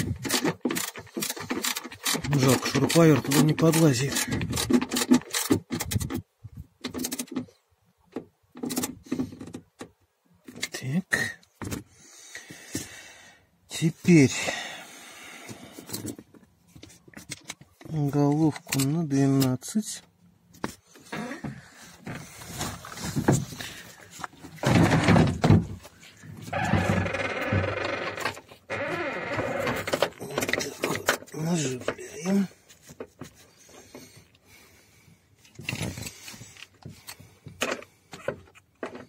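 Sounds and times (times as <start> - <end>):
hands and tools rustling and scraping: 0.0 - 39.0.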